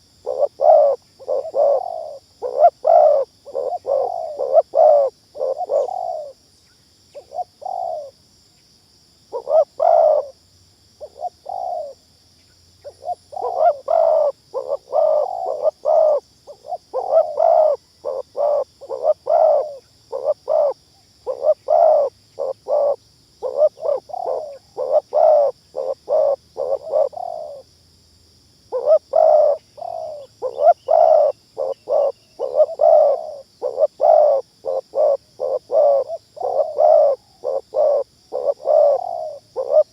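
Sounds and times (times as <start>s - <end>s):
doves cooing: 0.0s - 6.4s, 7.2s - 8.1s, 9.3s - 10.3s, 11.0s - 12.0s, 12.8s - 27.6s, 28.7s - 39.9s.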